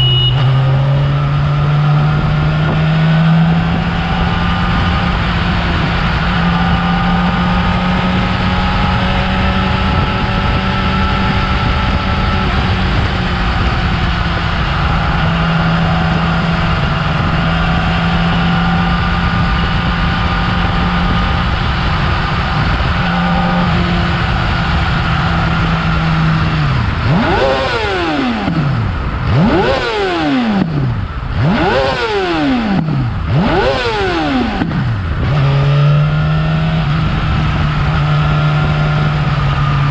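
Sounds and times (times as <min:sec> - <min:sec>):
motorcycle engine revving: 0:00.0 - 0:39.9
motorcycle engine running: 0:00.0 - 0:39.9.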